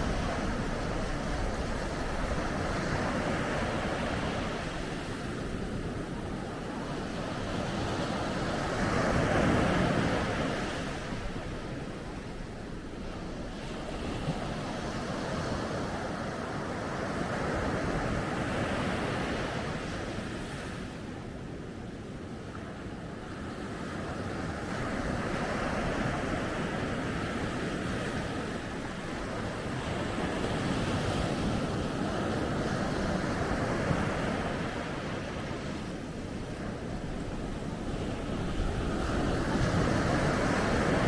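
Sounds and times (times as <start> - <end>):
ocean waves breaking on a beach: 0.0 - 41.0.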